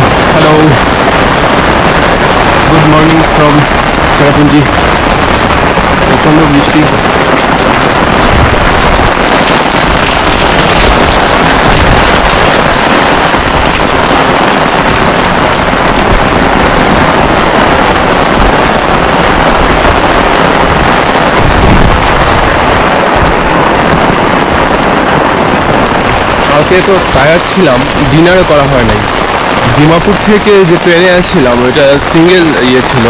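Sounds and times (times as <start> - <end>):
wind buffeting microphone: 0.0 - 30.6
heavy rain falling: 0.0 - 33.0.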